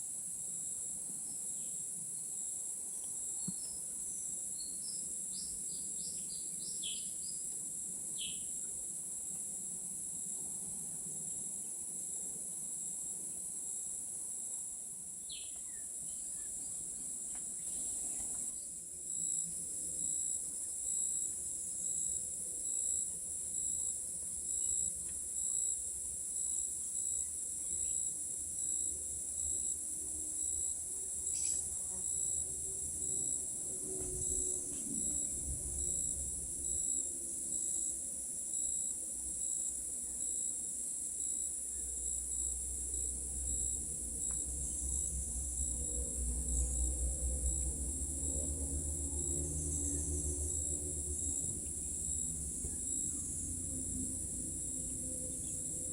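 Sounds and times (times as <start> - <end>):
insects droning: 0.0 - 55.9
pulsing insect call: 1.6 - 9.0, 15.2 - 55.9.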